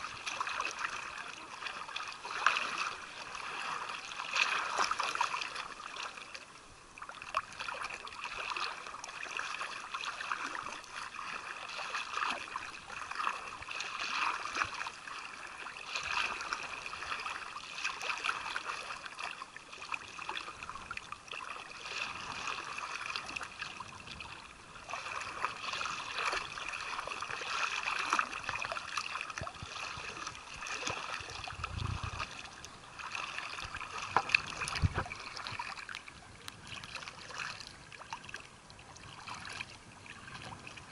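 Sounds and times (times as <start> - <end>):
water lapping and sloshing: 0.0 - 40.9.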